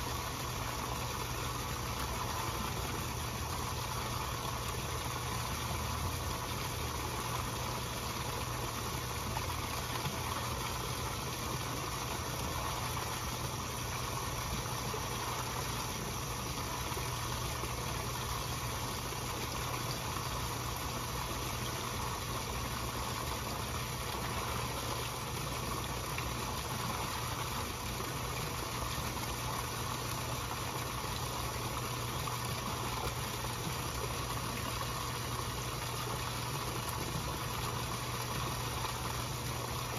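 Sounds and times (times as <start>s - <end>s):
pond water rushing: 0.0s - 39.9s
pump humming: 0.0s - 39.9s.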